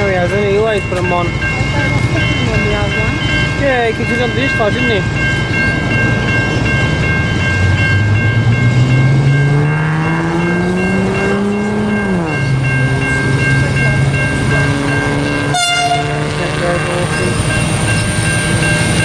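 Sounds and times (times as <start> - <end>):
diesel train engine: 0.0 - 19.0
level crossing warning bells: 0.0 - 19.0.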